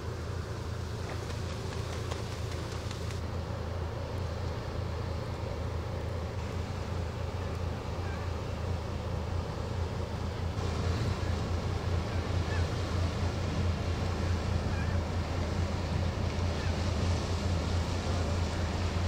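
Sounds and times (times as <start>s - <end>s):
ship engine drone: 0.0s - 19.0s
water rushing at bow: 0.0s - 19.0s.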